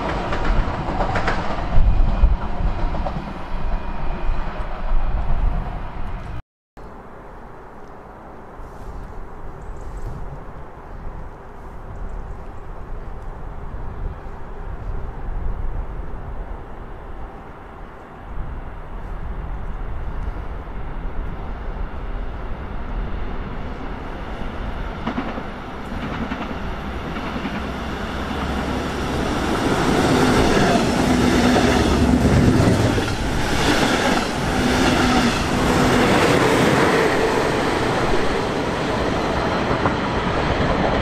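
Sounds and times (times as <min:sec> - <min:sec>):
train hum: 0:00.0 - 0:41.0.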